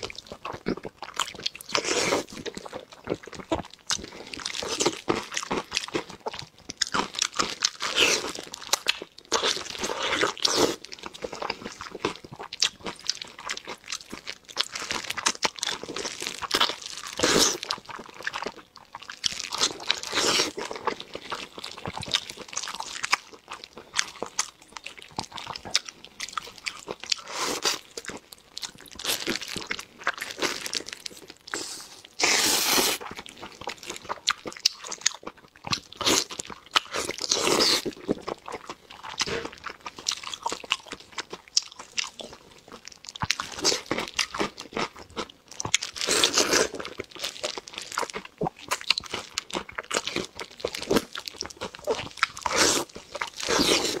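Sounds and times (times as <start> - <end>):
person chewing and sucking: 0.0 - 54.0.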